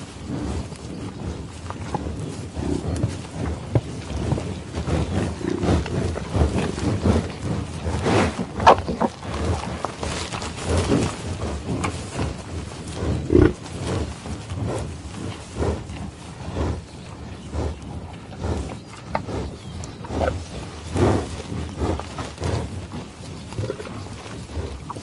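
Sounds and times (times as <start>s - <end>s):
animal growls and grunts: 0.0s - 25.0s.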